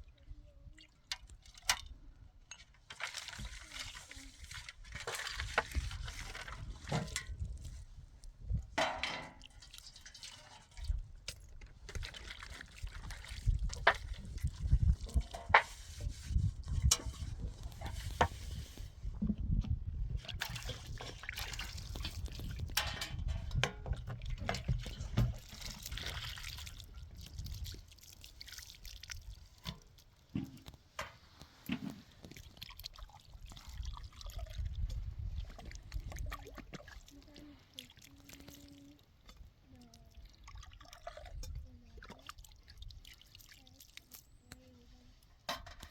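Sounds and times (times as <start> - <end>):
water splashing and dripping: 0.1 - 7.8, 8.5 - 18.4, 20.1 - 44.8.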